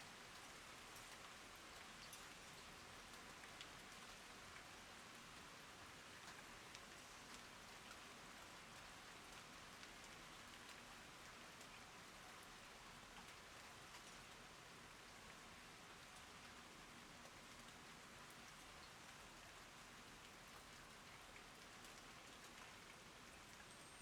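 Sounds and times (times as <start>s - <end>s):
faint rain hiss: 0.0s - 24.0s.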